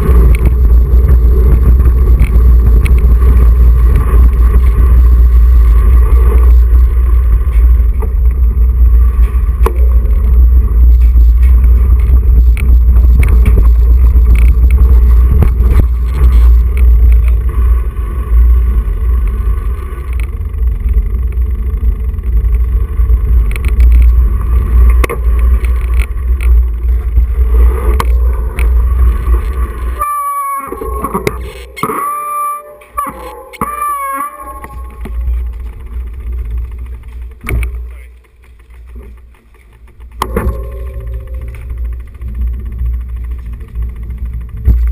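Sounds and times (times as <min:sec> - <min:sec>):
bike clicks and rattles: 0:00.0 - 0:44.9
wind rumble on microphone: 0:00.0 - 0:44.9.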